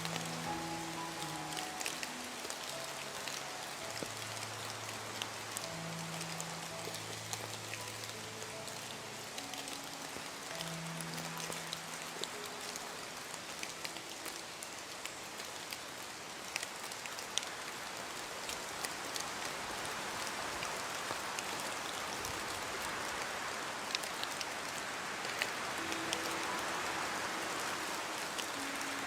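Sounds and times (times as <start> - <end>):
raindrops ticking on a surface: 0.0 - 29.0
steady rain hiss: 0.0 - 29.0.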